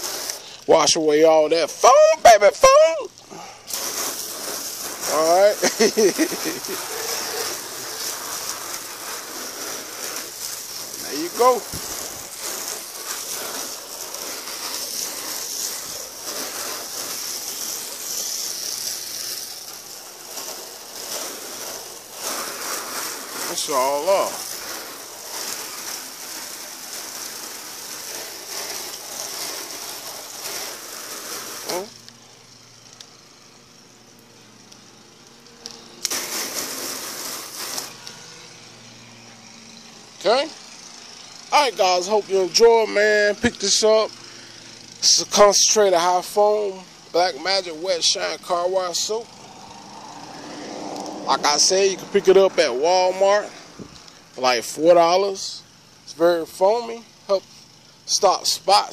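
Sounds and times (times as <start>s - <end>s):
hissing water spray: 0.0s - 58.9s.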